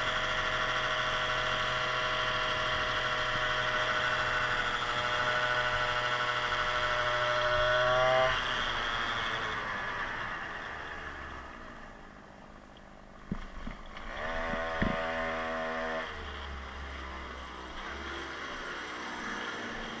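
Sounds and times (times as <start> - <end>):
two-stroke scooter engine revving: 0.0 - 12.2, 13.2 - 20.0.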